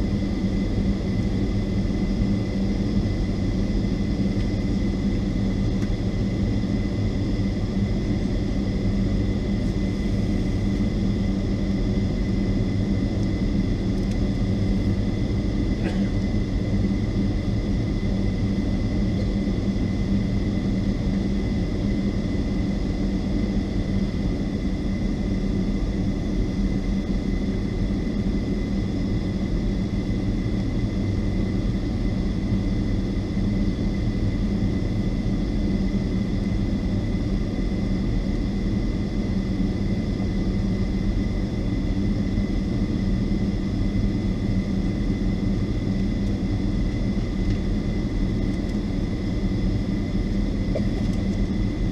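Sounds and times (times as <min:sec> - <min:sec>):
jet engines idling: 0:00.0 - 0:51.9.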